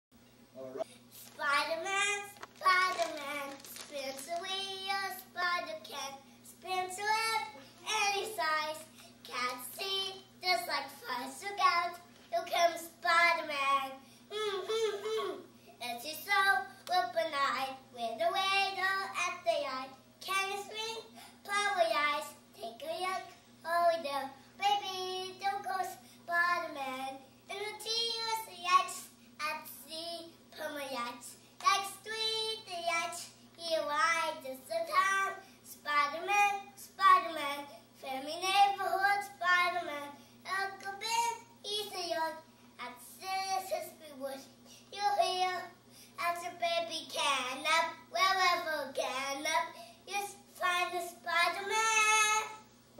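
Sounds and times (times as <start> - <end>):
faint electrical hum: 0.2 - 52.9.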